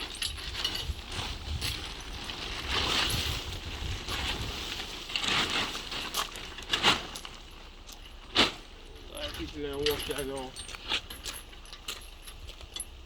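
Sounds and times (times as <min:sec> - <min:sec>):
scraping and rustling handling: 0:00.0 - 0:13.0.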